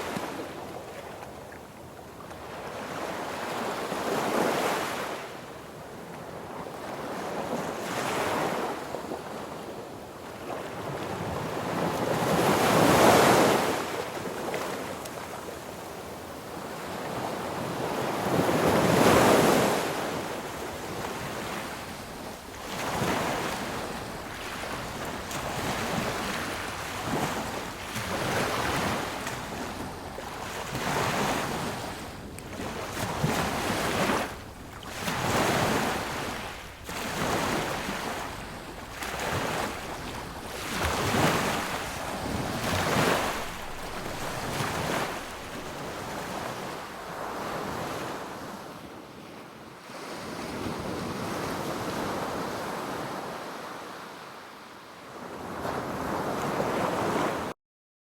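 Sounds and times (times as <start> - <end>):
sea waves breaking on a beach: 0.0 - 57.5.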